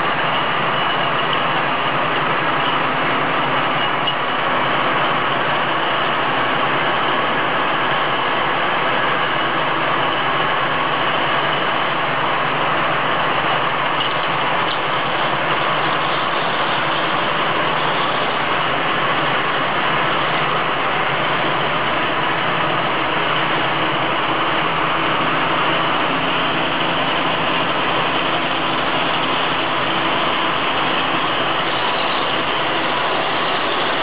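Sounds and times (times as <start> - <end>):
bottle washing machine running: 0.0 - 34.0.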